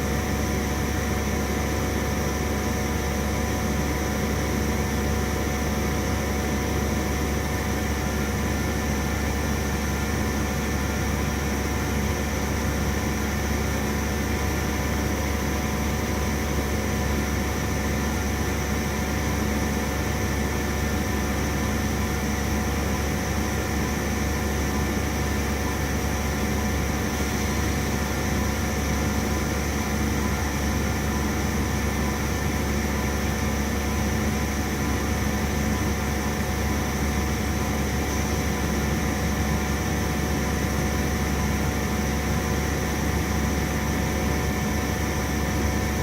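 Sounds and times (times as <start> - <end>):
milling machine humming and whining: 0.0 - 46.0.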